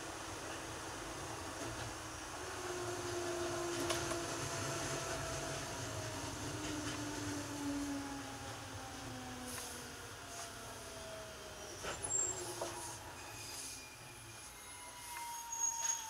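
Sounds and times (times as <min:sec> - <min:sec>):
wheels rumbling on track: 0:00.0 - 0:16.0
electric train motor whine: 0:01.7 - 0:16.0.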